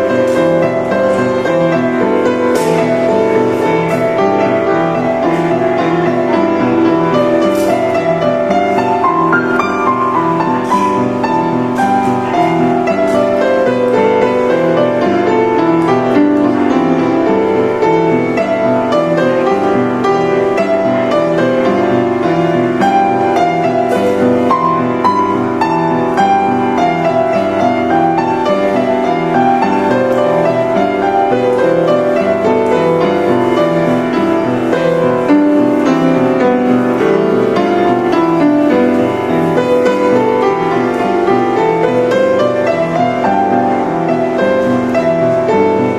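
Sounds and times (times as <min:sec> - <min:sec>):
upright piano playing: 0:00.0 - 0:45.9.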